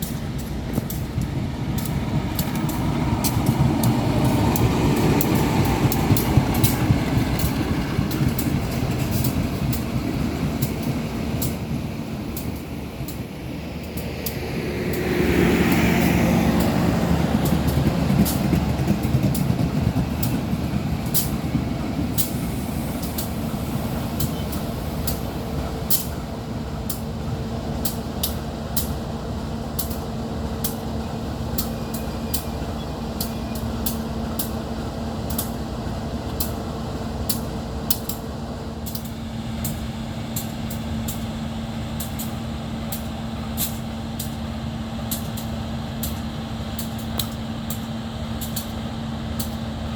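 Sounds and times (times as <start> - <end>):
locomotive engine droning: 0.0 - 49.9.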